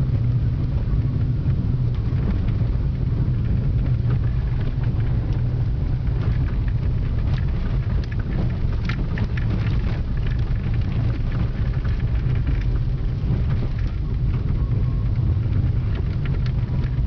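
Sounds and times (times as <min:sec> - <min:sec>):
car engine and tyres rumbling: 0:00.0 - 0:17.0
ticks and rattles on rough road: 0:00.0 - 0:17.0.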